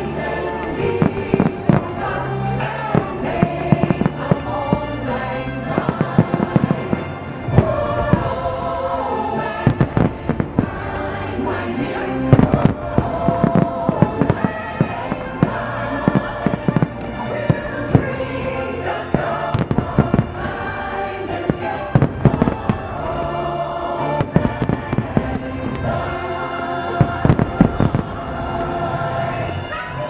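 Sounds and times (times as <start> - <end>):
fireworks bursting: 0.0 - 29.7
music over loudspeakers: 0.0 - 30.0.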